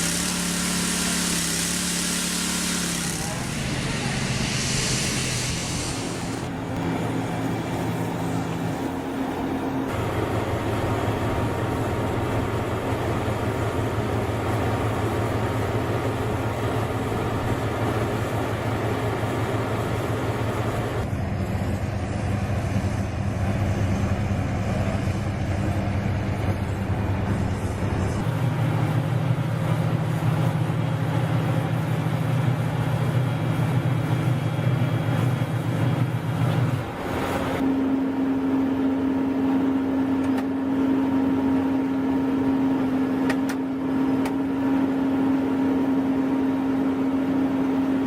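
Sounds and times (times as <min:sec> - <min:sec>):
heavy machinery engine drone: 0:00.0 - 0:48.0.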